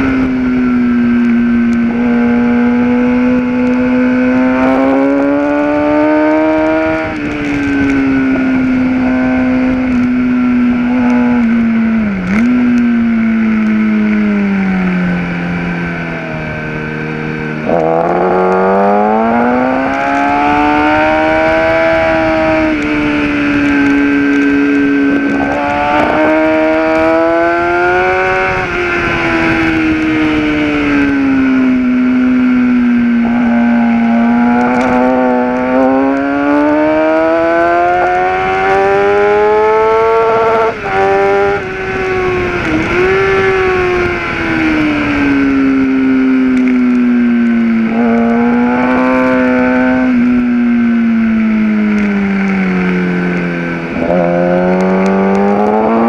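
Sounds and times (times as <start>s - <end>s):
motorcycle engine at speed: 0.0s - 56.0s
wind rushing over microphone: 0.0s - 56.0s.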